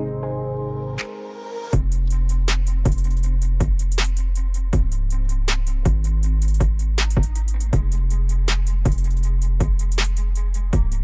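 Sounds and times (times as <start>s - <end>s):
music with drum beat and bass: 1.0s - 11.0s.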